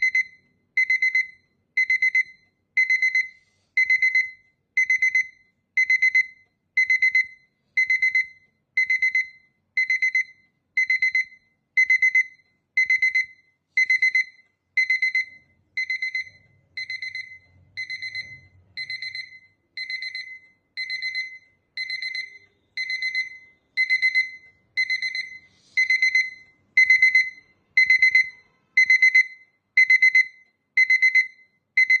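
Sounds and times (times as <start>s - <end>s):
alarm clock beeping: 0.0s - 32.0s.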